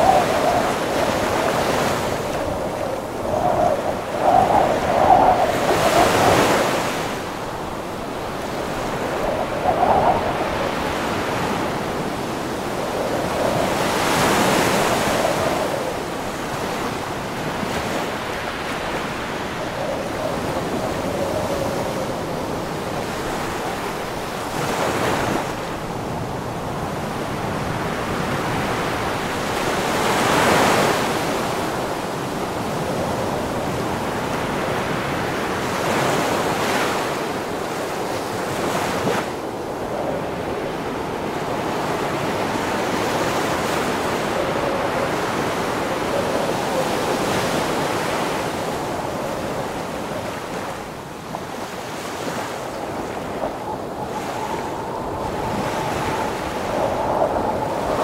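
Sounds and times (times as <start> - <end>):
strong wind: 0.0 - 58.0
wind buffeting microphone: 0.0 - 58.0.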